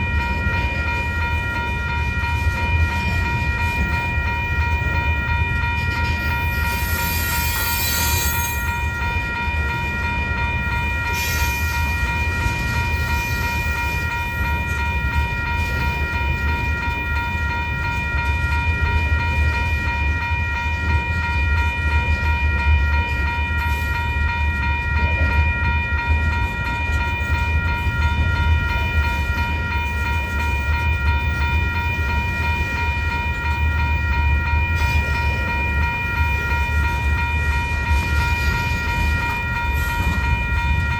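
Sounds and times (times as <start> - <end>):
freight train rumbling on rails: 0.0 - 40.9
high-pitched ringing tone: 0.0 - 40.9.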